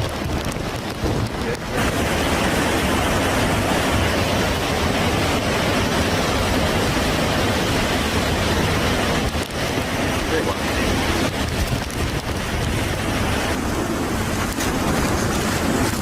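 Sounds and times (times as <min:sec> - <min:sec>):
hurricane wind and rain: 0:00.0 - 0:16.0.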